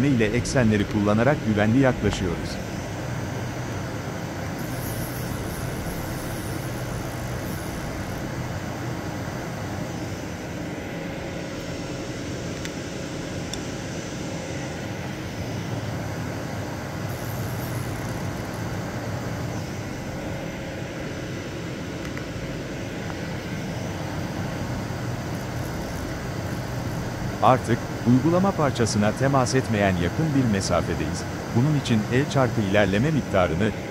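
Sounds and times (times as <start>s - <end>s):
lathe spindle humming and whirring: 0.0s - 33.9s.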